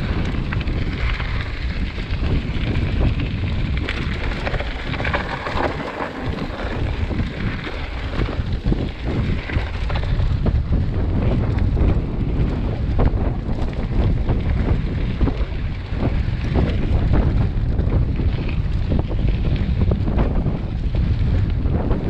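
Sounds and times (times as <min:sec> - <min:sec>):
bike tyres crunching over gravel: 0:00.0 - 0:22.0
wind rumble on microphone: 0:00.0 - 0:22.0.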